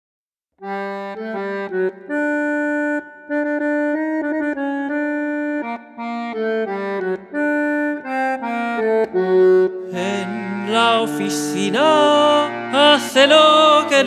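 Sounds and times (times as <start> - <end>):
bandoneon playing chords: 0.6 - 14.0.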